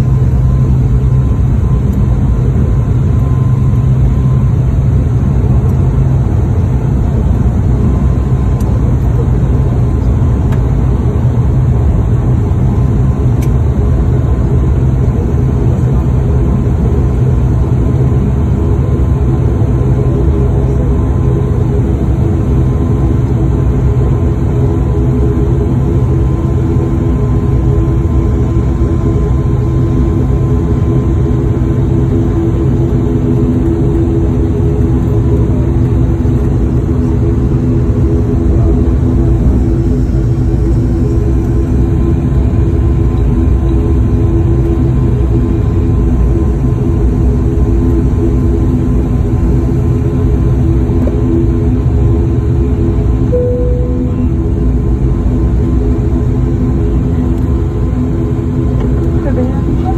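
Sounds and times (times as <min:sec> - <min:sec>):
humming propeller tone: 0:00.0 - 0:59.9
turboprop engines droning: 0:00.0 - 0:59.9.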